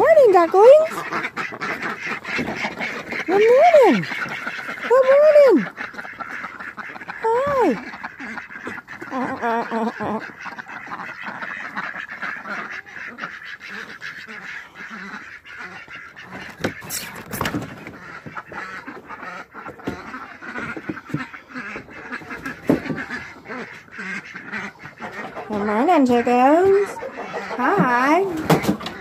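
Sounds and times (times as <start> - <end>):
ducks quacking: 0.0 - 29.0.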